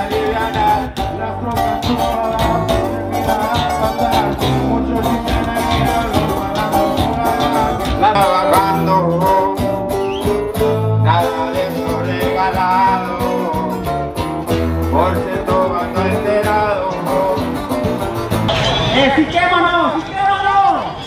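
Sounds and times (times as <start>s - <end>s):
man singing into microphone: 0.0s - 14.1s, 14.8s - 17.8s
bass line: 0.0s - 19.8s
acoustic guitars: 0.0s - 20.2s.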